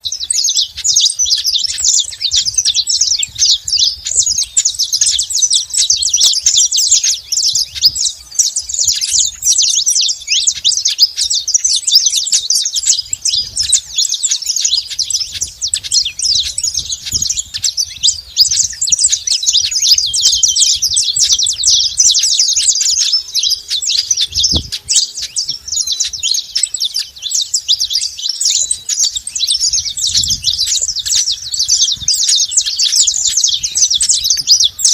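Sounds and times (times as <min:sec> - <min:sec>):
finches chirping and singing: 0:00.0 - 0:34.9.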